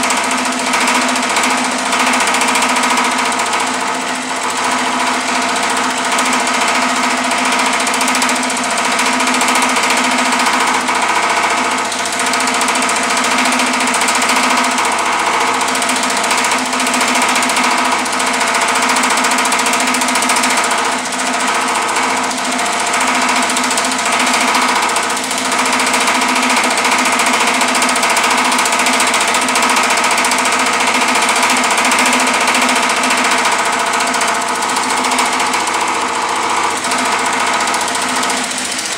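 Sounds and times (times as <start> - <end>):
power hammer pounding sheet metal: 0.0 - 38.9.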